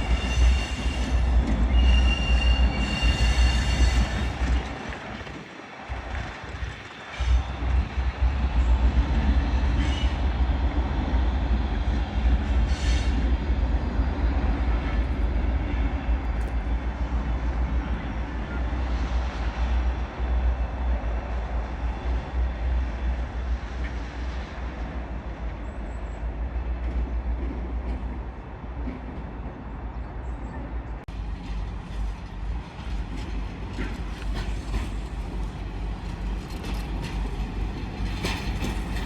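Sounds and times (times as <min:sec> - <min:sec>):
train rumbling through station: 0:00.0 - 0:39.0.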